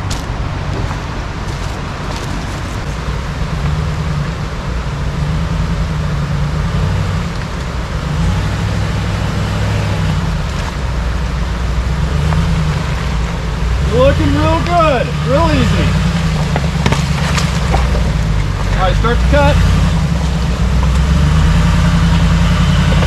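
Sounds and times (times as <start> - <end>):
truck engine low rumble: 0.0 - 23.0.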